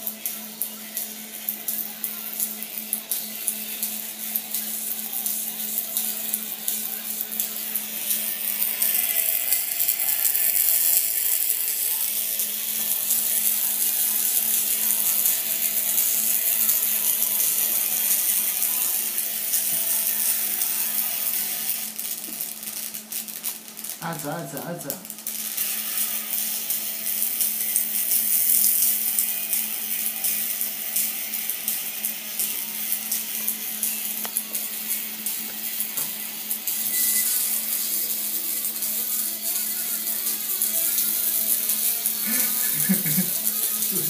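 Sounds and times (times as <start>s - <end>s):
electric arc crackling buzz: 0.0s - 44.0s
faint music: 0.0s - 44.0s.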